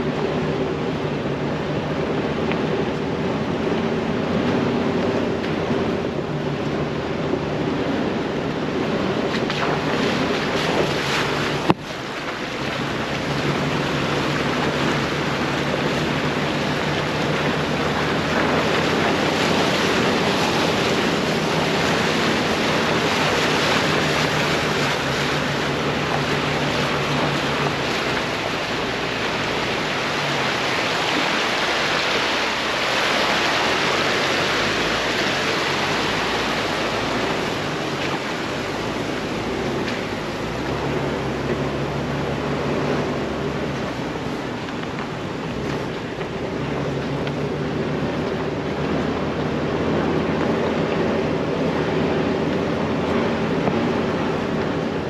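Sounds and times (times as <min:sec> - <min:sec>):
low engine hum: 0:00.0 - 0:55.0
steady rushing noise: 0:00.0 - 0:55.0.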